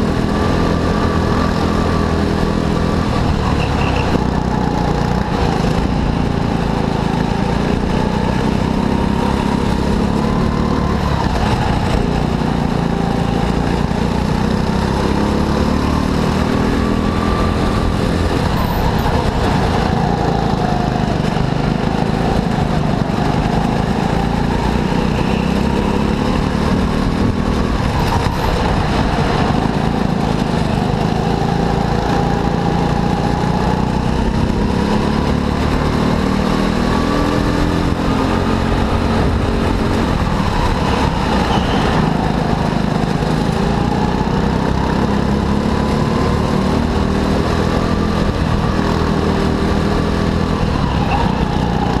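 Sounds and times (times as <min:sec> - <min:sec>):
go-kart engine revving: 0:00.0 - 0:52.0.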